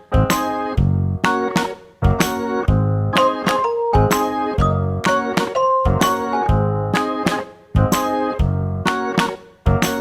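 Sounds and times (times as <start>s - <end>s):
children's tune on keyboard: 0.0s - 10.0s.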